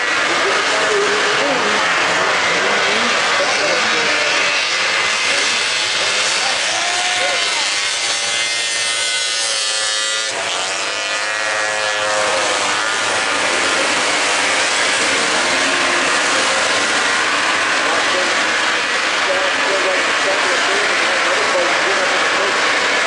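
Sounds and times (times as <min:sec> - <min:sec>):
engine and track noise: 0:00.0 - 0:23.0
snowmobile engines revving: 0:00.0 - 0:23.0.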